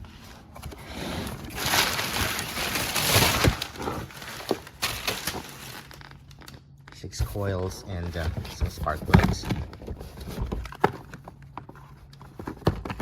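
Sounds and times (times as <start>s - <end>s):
packaging rustling: 0.1s - 13.0s.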